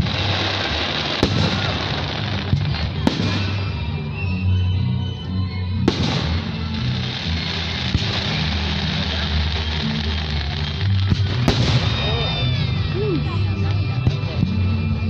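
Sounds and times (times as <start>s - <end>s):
fireworks bangs: 0.0s - 4.6s, 5.8s - 14.4s
music with low bass: 0.0s - 15.0s.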